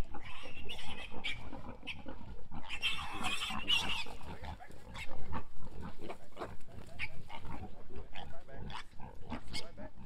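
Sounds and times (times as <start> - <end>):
pigs squealing: 0.0 - 10.0.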